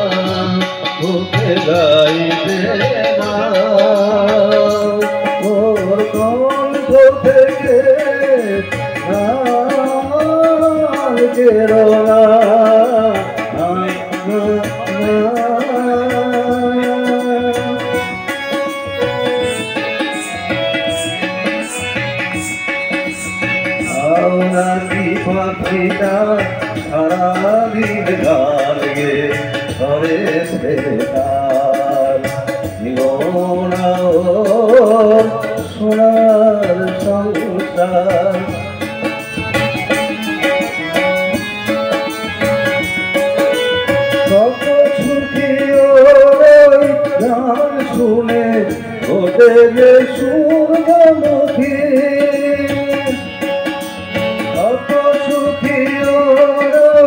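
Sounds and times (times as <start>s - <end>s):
harmonium: 0.0s - 57.0s
plucked string instrument: 0.0s - 57.0s
tabla drums: 0.0s - 57.0s.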